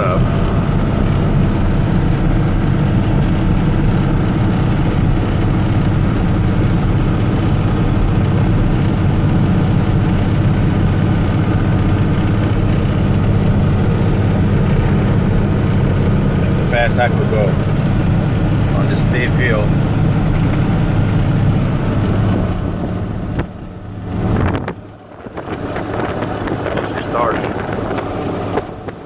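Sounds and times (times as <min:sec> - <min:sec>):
truck engine pulling uphill: 0:00.0 - 0:29.0.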